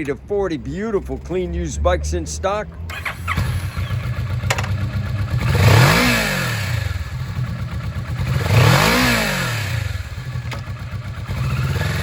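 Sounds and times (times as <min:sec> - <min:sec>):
motorcycle engine revving: 0:01.9 - 0:12.0.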